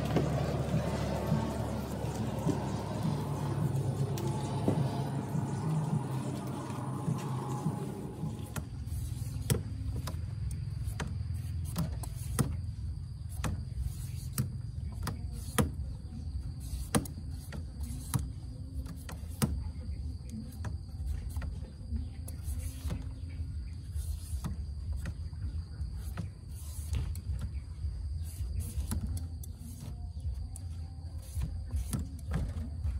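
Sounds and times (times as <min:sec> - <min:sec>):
peeler scraping papaya skin: 0:00.0 - 0:21.6, 0:23.8 - 0:32.7
high insect drone: 0:00.0 - 0:32.9.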